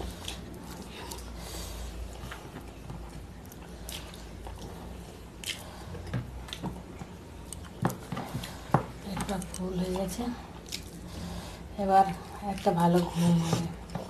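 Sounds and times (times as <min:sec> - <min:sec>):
chewing: 0:00.0 - 0:11.4.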